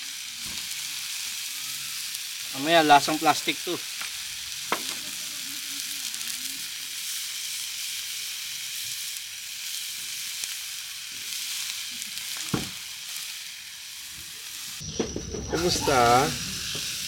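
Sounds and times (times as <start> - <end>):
meat sizzling over charcoal: 0.0 - 17.0.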